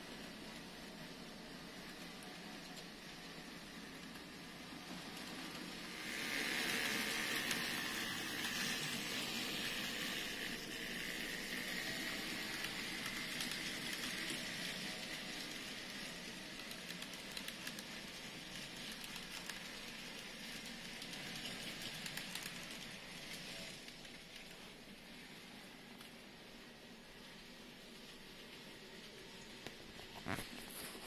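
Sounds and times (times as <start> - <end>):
model train whirring hiss: 0.0 - 31.0.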